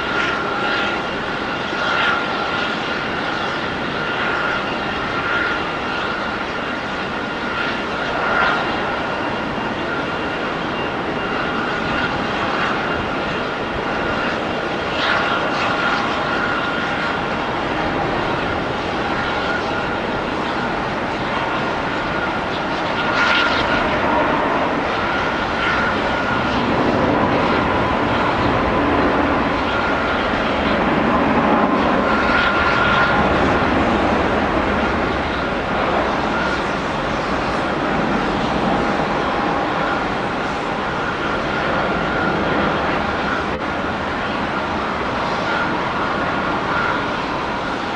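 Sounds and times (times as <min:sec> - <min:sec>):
faint high engine whine: 0:00.0 - 0:47.9
jet engines rushing: 0:00.0 - 0:47.9.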